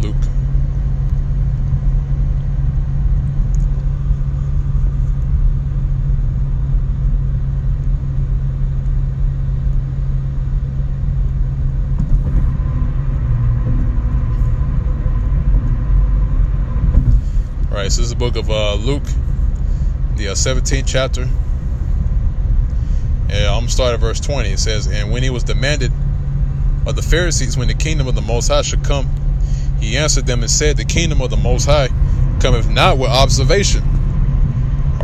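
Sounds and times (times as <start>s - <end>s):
vehicle engine rumble: 0.0s - 35.0s.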